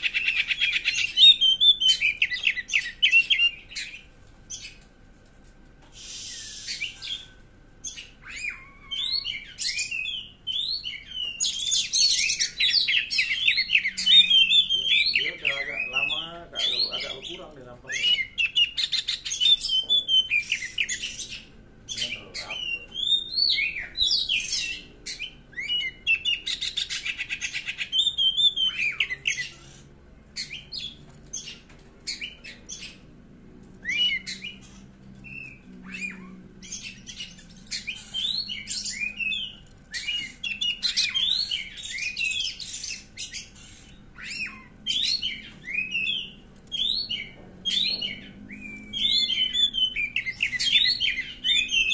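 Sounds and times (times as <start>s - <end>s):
bird singing whistled notes: 0.0s - 4.8s, 6.0s - 29.7s, 33.8s - 51.9s.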